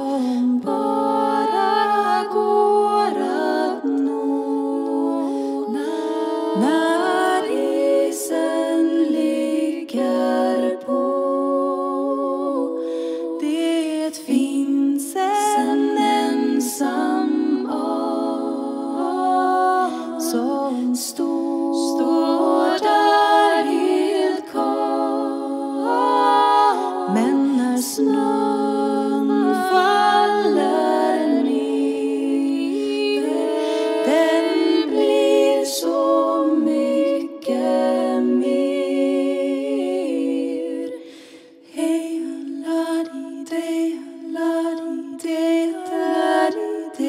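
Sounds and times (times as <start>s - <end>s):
women singing a cappella: 0.0s - 47.0s.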